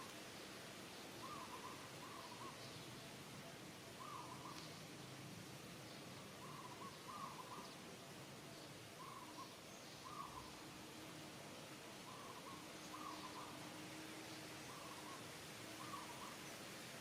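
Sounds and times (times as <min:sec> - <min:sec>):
light background hiss: 0:00.0 - 0:17.0.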